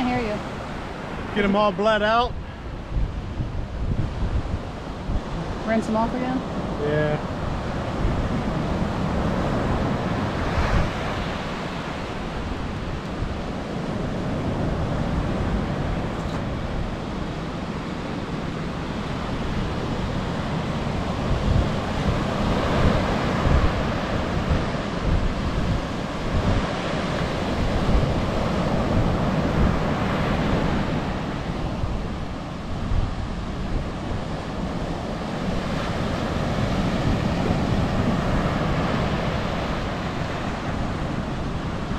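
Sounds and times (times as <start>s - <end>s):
surf washing up a beach: 0.0s - 41.9s
wind rumbling on microphone: 0.0s - 41.9s.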